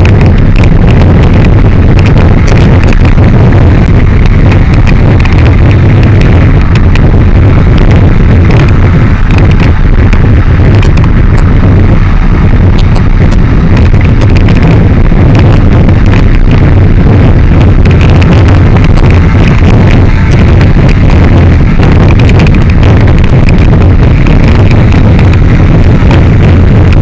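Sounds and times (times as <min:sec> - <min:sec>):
motorcycle engine cruising: 0:00.0 - 0:27.0
wind buffeting microphone: 0:00.0 - 0:27.0.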